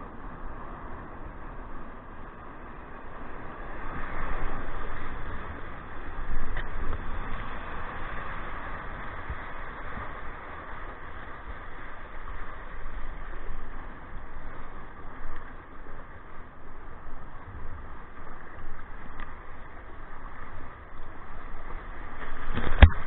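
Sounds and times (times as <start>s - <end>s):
surf whitewater rushing: 0.0s - 23.0s
wind rumbling on microphone: 0.0s - 23.0s.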